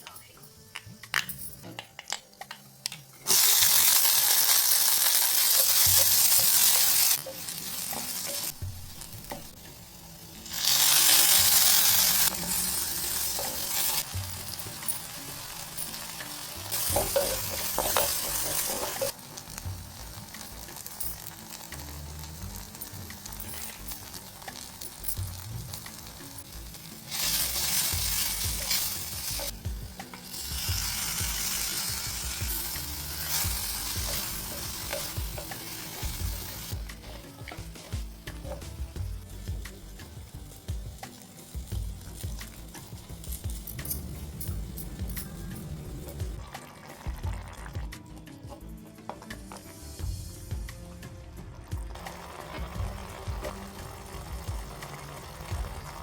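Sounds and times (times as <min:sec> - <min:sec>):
food sizzling in hot oil: 0:03.2 - 0:48.3, 0:49.4 - 0:56.0.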